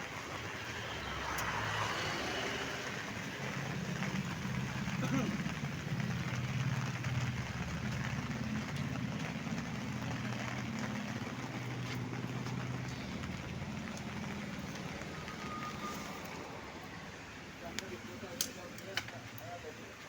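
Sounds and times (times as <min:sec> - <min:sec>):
heavy rain hissing: 0:00.0 - 0:20.0
vehicle engine idling: 0:00.0 - 0:20.0.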